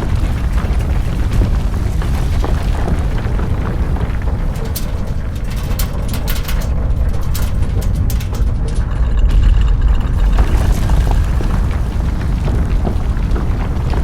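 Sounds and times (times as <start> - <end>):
crackles and cracking snaps: 0.0 - 14.0
deep earthquake rumble: 0.0 - 14.0.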